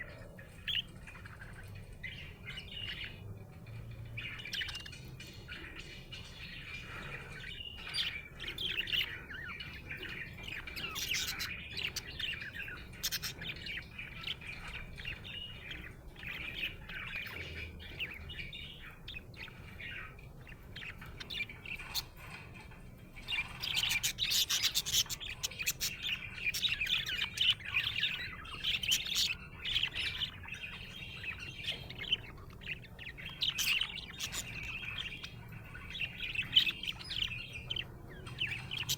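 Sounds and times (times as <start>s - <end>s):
budgerigar chirping and warbling: 0.0s - 38.9s.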